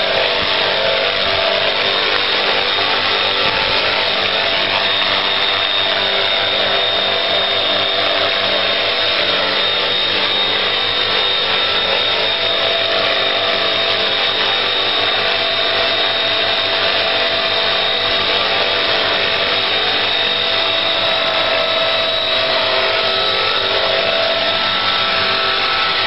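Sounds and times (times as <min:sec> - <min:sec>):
model helicopter motor whine: 0:00.0 - 0:26.0
rotor blades whirring: 0:00.0 - 0:26.0.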